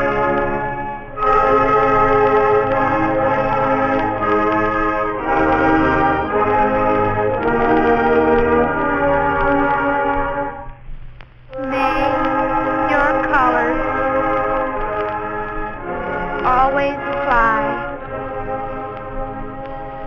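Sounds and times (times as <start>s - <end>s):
school band playing brass chords: 0.0s - 10.6s, 11.6s - 20.0s.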